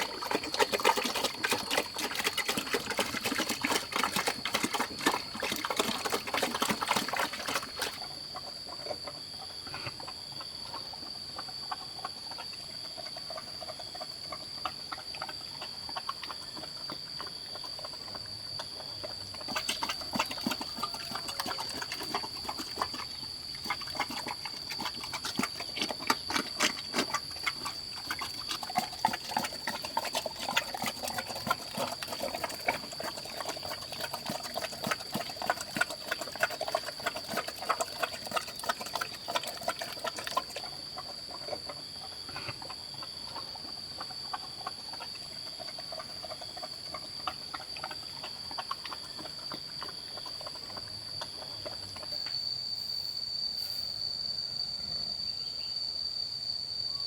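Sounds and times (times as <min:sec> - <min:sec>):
pigs grunting: 0:00.0 - 0:10.8, 0:13.0 - 0:52.2.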